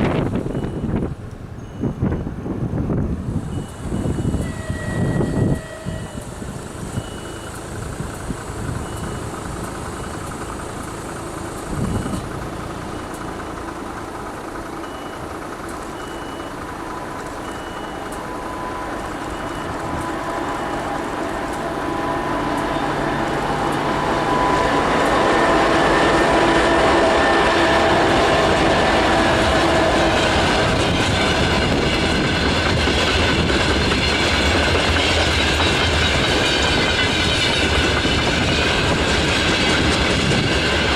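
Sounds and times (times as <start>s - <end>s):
diesel locomotive engines: 0.0s - 40.9s
train wheels on rails: 0.0s - 40.9s.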